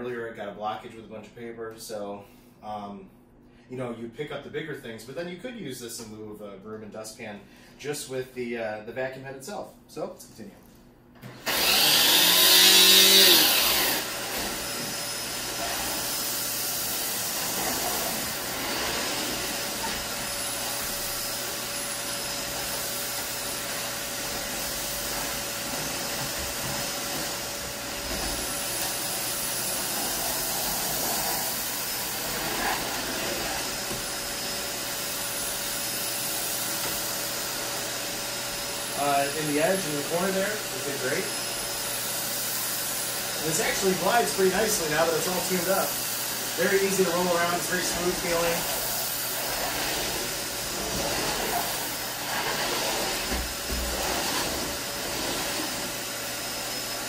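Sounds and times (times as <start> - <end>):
vacuum cleaner motor whine: 11.2 - 57.0.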